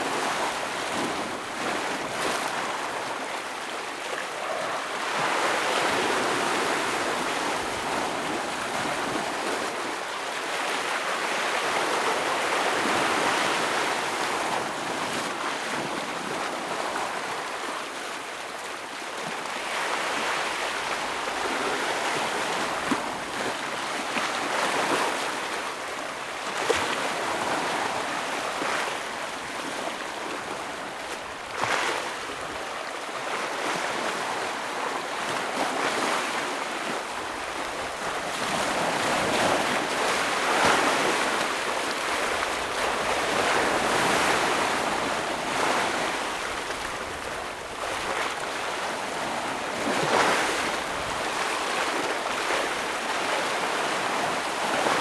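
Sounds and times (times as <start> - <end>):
ocean waves breaking on rocks: 0.0 - 17.4, 19.6 - 55.0.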